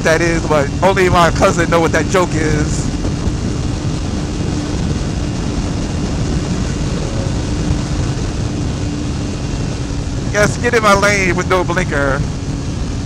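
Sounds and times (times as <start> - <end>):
motorcycle engine cruising: 0.0 - 13.0
wind rush: 0.0 - 13.0.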